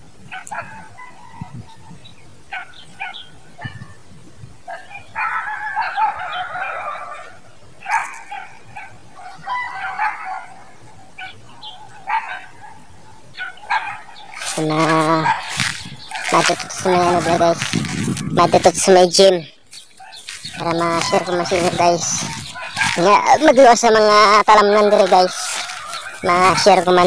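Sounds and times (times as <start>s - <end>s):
animal calls: 4.7s - 27.0s.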